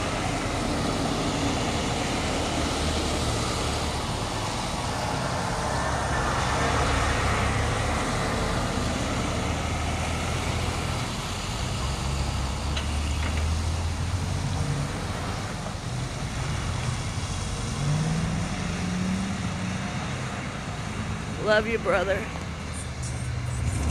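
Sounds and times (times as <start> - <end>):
diesel trucks driving past: 0.0 - 23.9.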